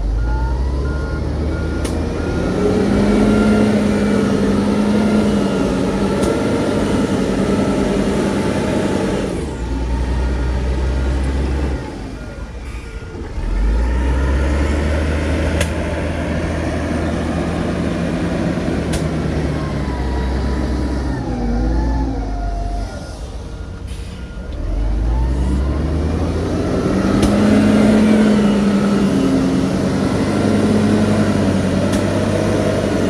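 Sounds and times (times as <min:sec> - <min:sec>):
diesel machinery under load: 0:00.0 - 0:33.0.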